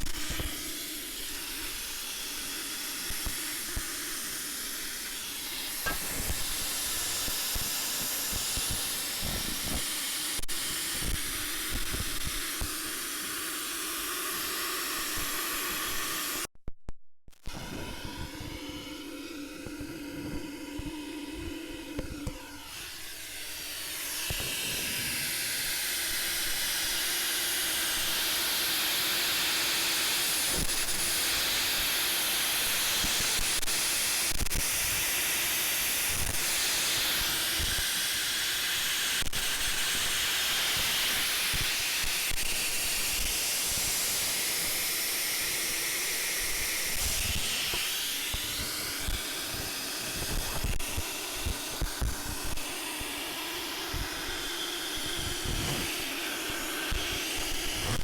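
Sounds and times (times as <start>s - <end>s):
gas hissing from car exhaust: 0.0s - 16.5s, 17.4s - 58.0s.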